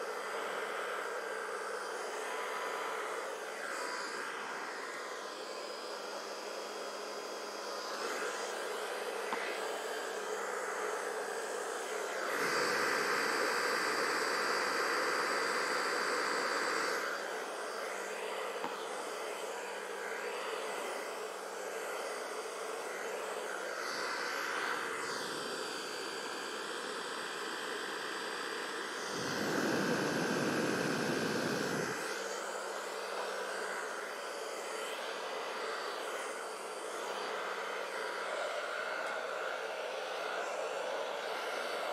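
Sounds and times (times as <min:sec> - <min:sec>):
hair dryer blowing: 0:00.0 - 0:41.9.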